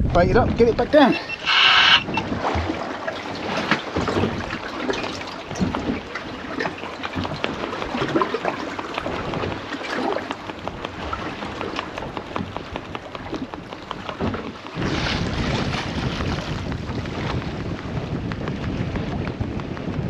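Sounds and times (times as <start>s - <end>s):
wind buffeting microphone: 0.0s - 20.0s
water splashing against boat hull: 0.3s - 20.0s.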